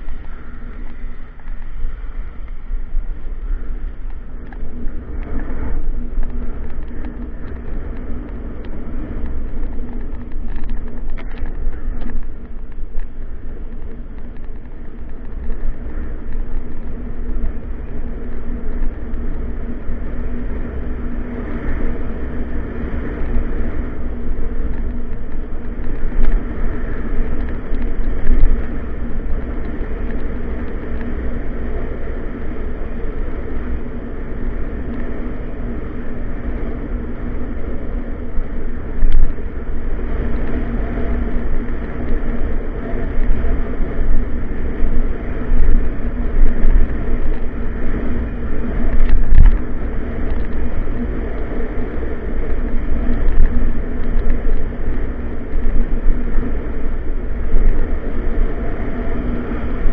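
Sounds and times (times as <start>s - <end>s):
bike rattles: 0.0s - 59.9s
bike tyres humming on asphalt: 0.0s - 59.9s
wind buffeting microphone: 0.0s - 59.9s.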